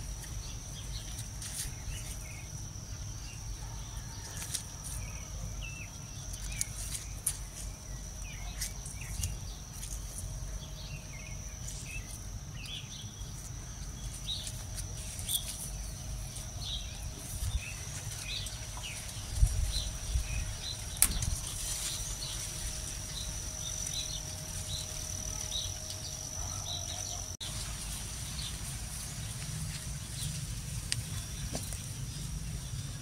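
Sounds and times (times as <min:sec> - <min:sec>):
high-pitched insect hum: 0:00.0 - 0:33.0
small birds chirping: 0:00.0 - 0:33.0.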